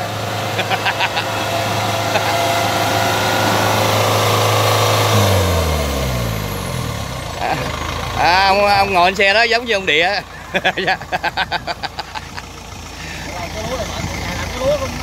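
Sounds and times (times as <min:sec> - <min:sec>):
tracked vehicle engine running: 0:00.0 - 0:15.0.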